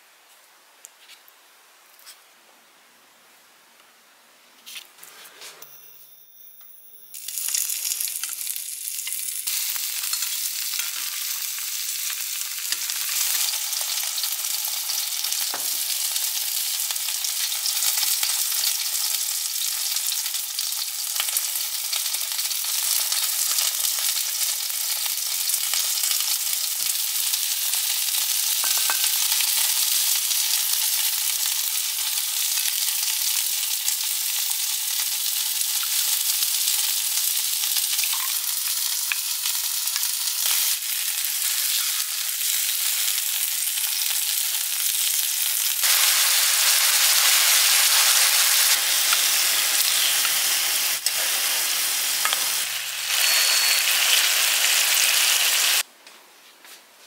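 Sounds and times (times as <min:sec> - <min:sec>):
food sizzling in pan: 0:05.6 - 0:55.8.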